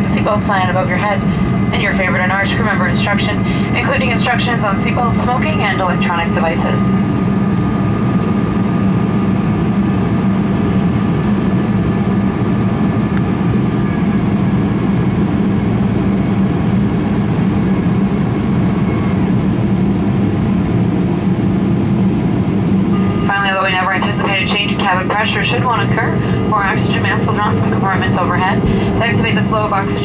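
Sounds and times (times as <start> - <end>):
jet engine drone in cabin: 0.0 - 30.0.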